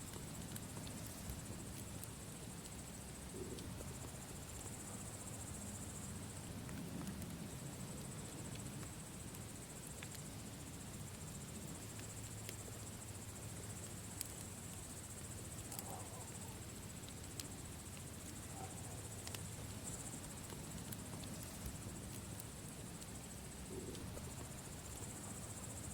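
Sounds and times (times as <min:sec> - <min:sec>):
campfire crackling: 0:00.0 - 0:25.9.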